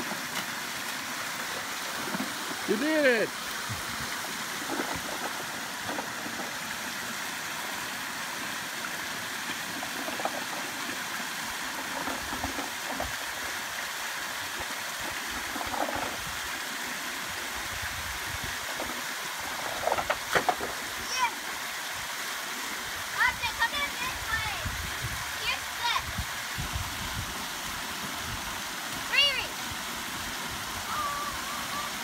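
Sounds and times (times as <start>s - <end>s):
creek water rushing over rocks: 0.0s - 32.0s.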